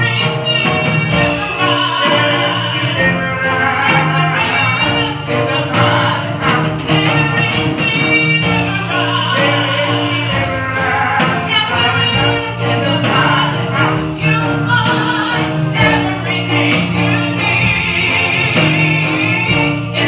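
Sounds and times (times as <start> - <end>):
gospel choir singing with band: 0.0 - 20.0.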